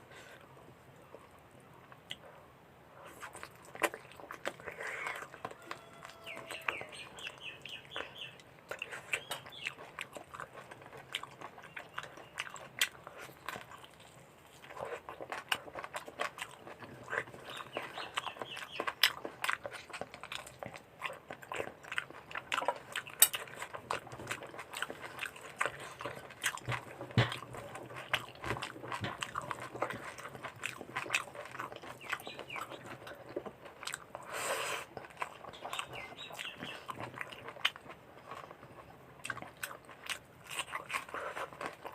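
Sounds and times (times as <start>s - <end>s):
food crunching: 3.0s - 41.9s
chewing and wet mouth clicks: 3.1s - 34.3s, 35.0s - 41.9s.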